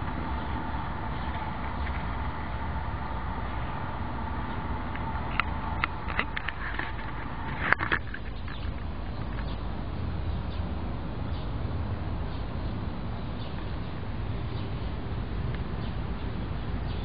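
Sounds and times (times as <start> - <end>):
low outdoor background noise: 0.0 - 17.0.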